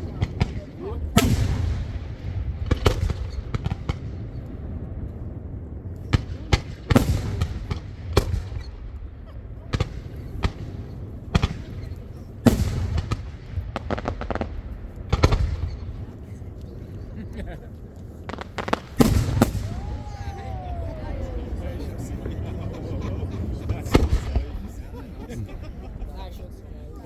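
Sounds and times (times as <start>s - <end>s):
fireworks bangs: 0.0s - 17.2s, 18.0s - 26.0s.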